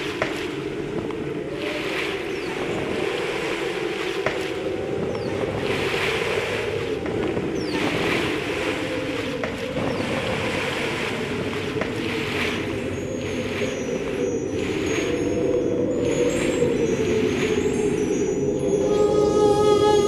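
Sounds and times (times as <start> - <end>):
water hissing and washing: 0.0 - 18.8
constant low drone: 0.0 - 20.0.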